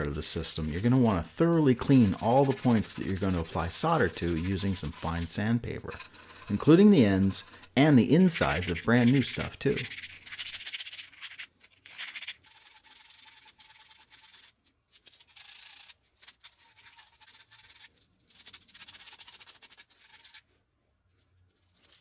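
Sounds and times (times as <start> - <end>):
sandpaper rubbing copper pipe: 0.0 - 14.5, 15.1 - 20.5.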